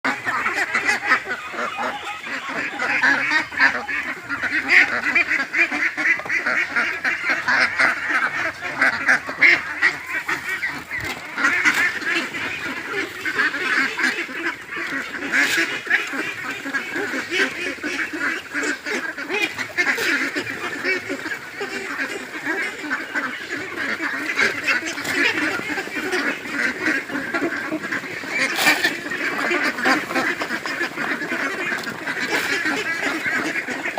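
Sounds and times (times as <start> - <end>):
ducks quacking: 0.0 - 33.9.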